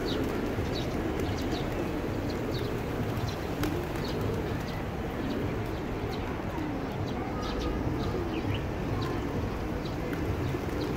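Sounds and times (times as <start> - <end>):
pigeons cooing: 0.0 - 10.9.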